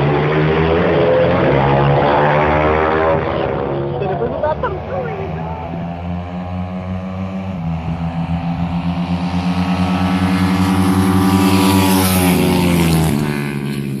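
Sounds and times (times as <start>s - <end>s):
motorcycle engines running hard: 0.0s - 14.0s.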